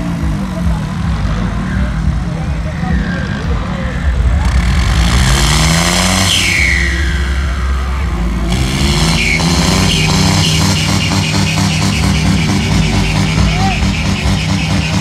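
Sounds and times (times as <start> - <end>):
crowd noise: 0.0 - 15.0
diesel tractor engines under load: 0.0 - 15.0
music playing: 0.0 - 15.0.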